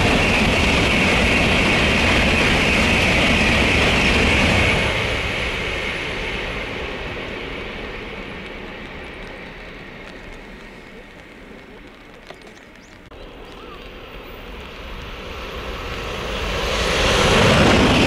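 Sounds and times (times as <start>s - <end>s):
bullet train passing at speed: 0.0s - 18.0s.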